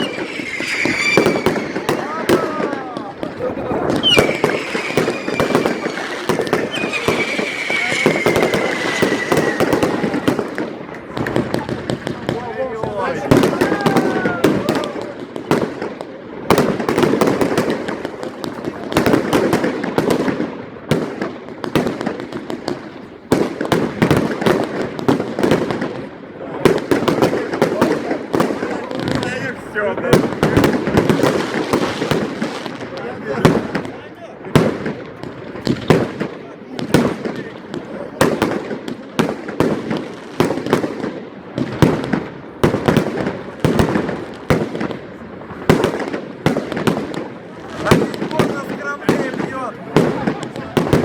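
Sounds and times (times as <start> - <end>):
fireworks crackling bangs: 0.0 - 51.0.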